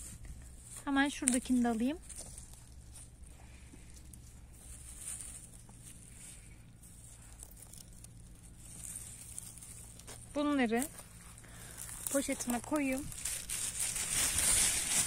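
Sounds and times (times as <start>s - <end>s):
rustling and tearing of greens: 0.0s - 15.0s.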